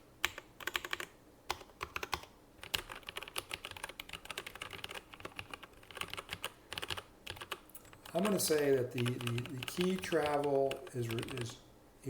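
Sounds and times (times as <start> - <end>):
typing on mechanical keyboard: 0.2 - 11.5.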